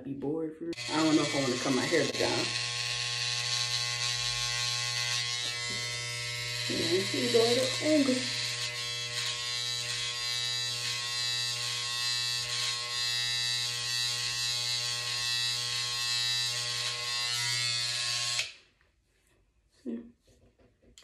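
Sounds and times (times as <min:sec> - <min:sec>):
electric hair trimmer buzzing: 0:00.8 - 0:18.6.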